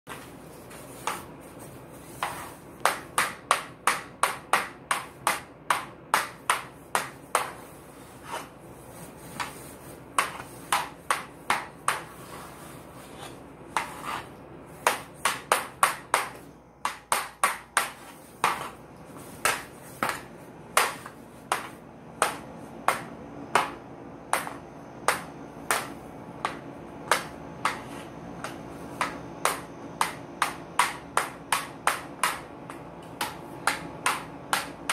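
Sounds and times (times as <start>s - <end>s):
hockey stick tapping ball: 0.9s - 1.4s, 2.1s - 7.7s, 9.3s - 12.2s, 13.2s - 34.9s.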